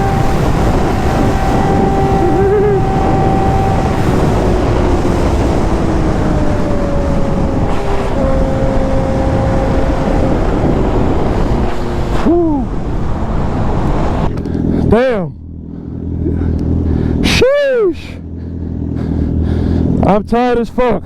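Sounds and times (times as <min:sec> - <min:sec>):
sportbike engine running: 0:00.0 - 0:21.0
wind roar on microphone: 0:00.0 - 0:21.0.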